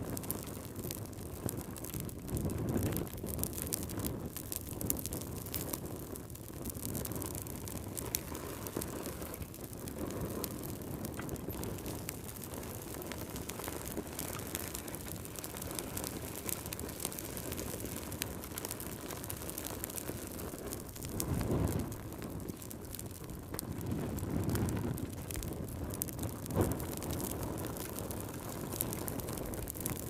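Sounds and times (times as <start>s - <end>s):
low surges of flame: 0.0s - 30.0s
wood fire crackling: 0.0s - 30.0s.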